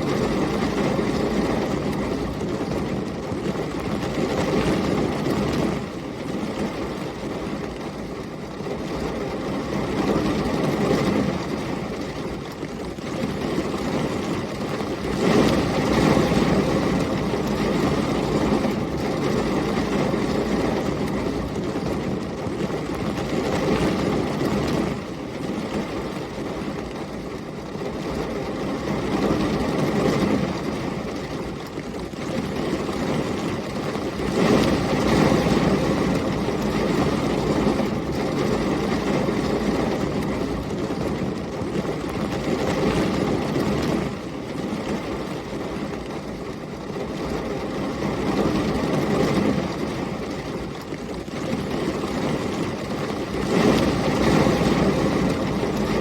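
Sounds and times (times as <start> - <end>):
gusting storm wind: 0.0 - 56.0
heavy rain: 0.0 - 56.0.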